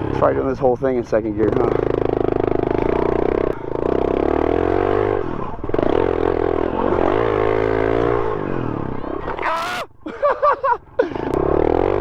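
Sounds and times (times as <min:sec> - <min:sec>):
dirt bike engine revving: 0:00.0 - 0:09.9, 0:11.0 - 0:12.0.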